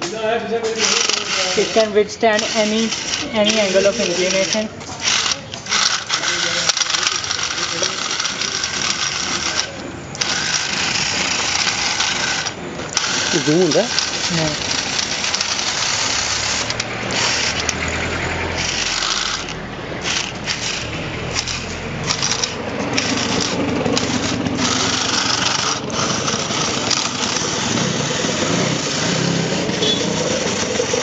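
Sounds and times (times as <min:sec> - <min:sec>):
robot motors buzzing whir: 0:00.8 - 0:31.0.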